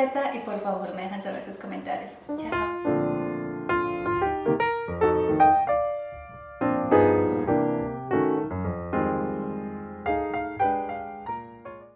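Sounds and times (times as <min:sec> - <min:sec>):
piano chords: 0:02.2 - 0:11.9.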